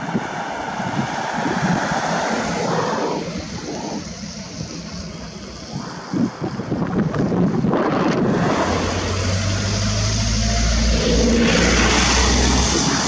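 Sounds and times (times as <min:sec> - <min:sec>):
turboprop engines roaring: 0:00.0 - 0:13.0.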